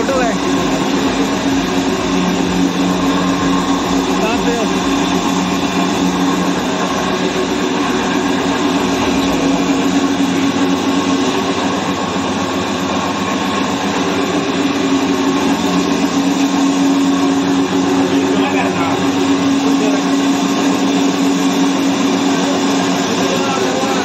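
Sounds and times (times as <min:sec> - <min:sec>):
flour mill machine hum: 0:00.0 - 0:24.0
rushing grinding noise: 0:00.0 - 0:24.0.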